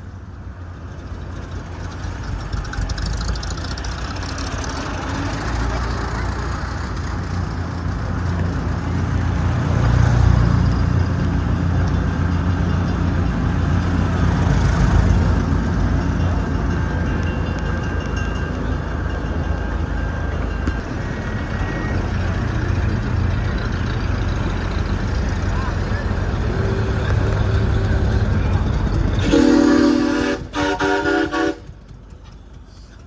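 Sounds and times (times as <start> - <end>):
vehicle engine hum: 0.0 - 17.6, 20.4 - 33.0.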